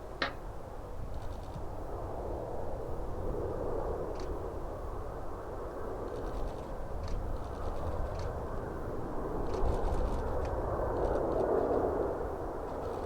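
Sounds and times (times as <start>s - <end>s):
distant jet engine rumble: 0.0s - 13.0s.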